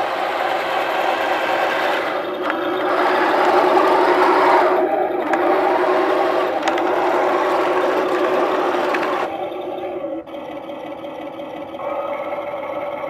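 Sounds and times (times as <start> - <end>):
electric drive whirring: 0.0 - 13.0.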